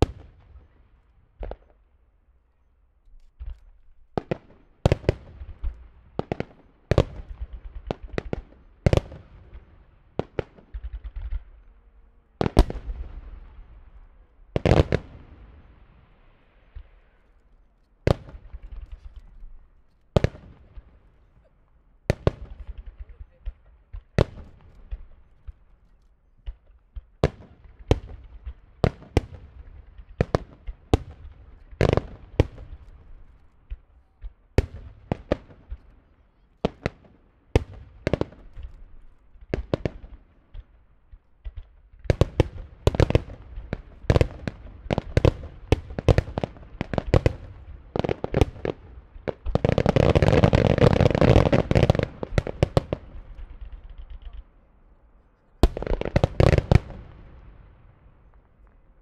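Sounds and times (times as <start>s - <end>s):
fireworks crackling: 0.0s - 59.0s
fireworks booming: 3.4s - 17.4s, 18.0s - 25.8s, 26.4s - 54.5s, 55.6s - 59.0s.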